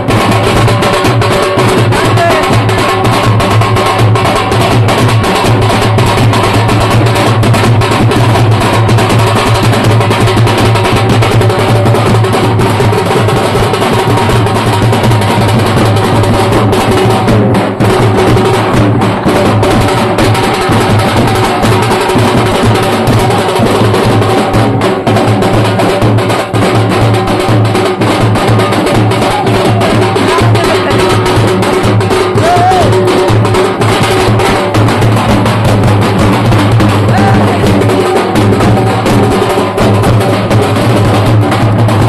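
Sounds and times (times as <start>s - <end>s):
drums beaten with sticks: 0.0s - 42.0s.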